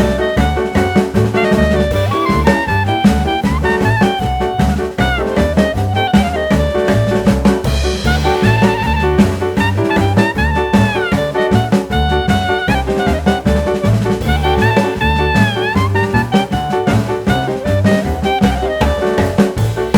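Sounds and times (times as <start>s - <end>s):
bass line: 0.0s - 19.9s
drum kit: 0.0s - 19.9s
horn melody with sliding notes: 0.0s - 19.9s.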